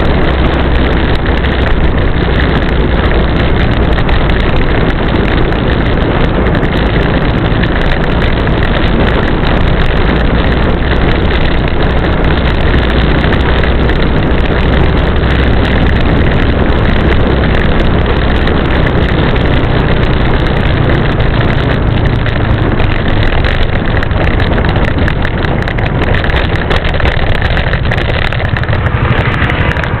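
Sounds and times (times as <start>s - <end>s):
strong wind blowing: 0.0s - 30.0s.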